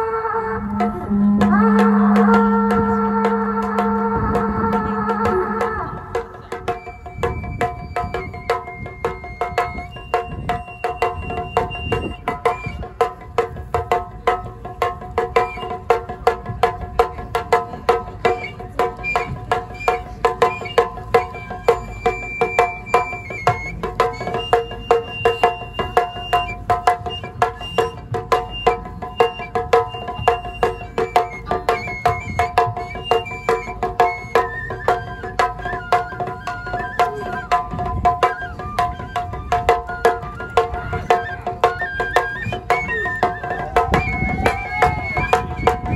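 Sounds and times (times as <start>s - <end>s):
flute melody: 0.0s - 45.9s
struck percussion beat: 0.6s - 45.9s.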